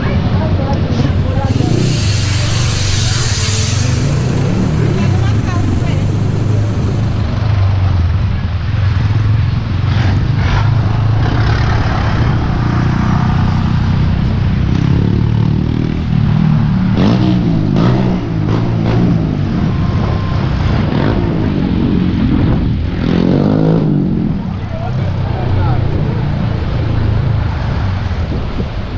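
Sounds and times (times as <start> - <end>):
vehicle engines passing: 0.0 - 28.9.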